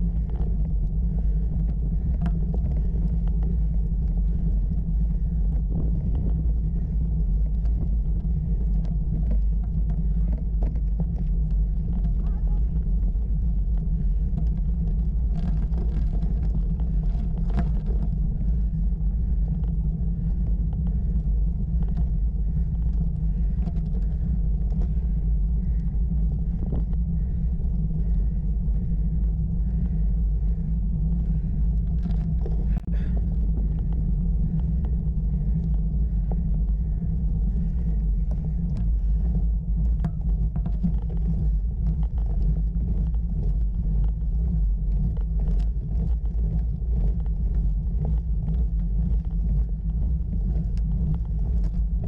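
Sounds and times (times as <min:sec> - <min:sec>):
low road rumble: 0:00.0 - 0:52.0.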